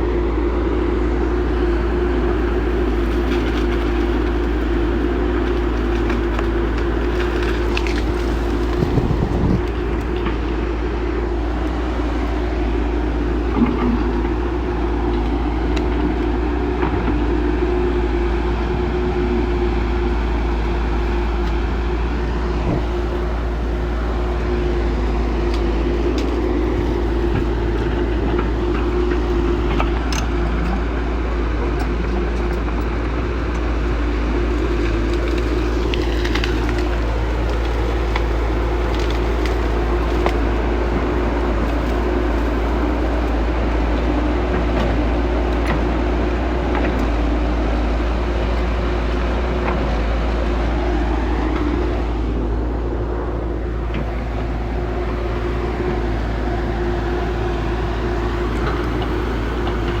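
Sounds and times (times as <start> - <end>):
diesel engines of heavy machines: 0.0 - 60.0.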